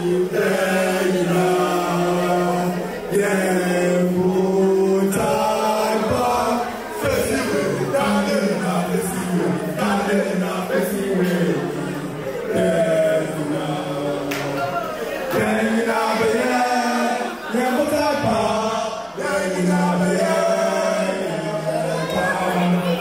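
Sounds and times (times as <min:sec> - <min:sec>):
men singing chant-like song: 0:00.0 - 0:23.0.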